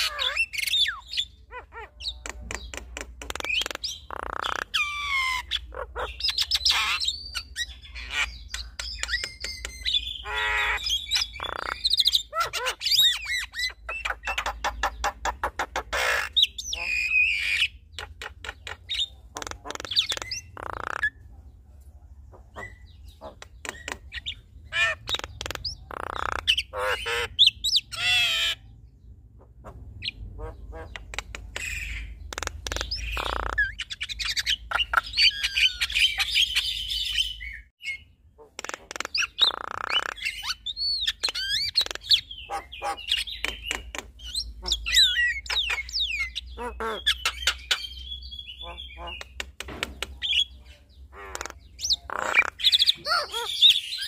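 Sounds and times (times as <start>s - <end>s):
birds squawking and whistling: 0.0s - 21.6s, 22.2s - 54.0s.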